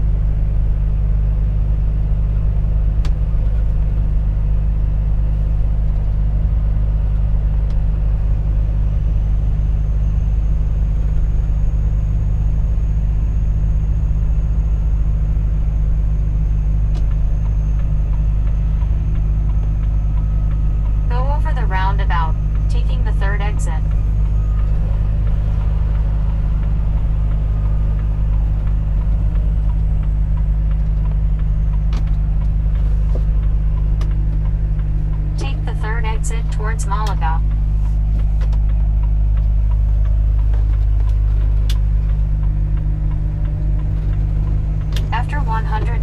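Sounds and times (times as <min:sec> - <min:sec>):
diesel truck engine rumbling: 0:00.0 - 0:46.0.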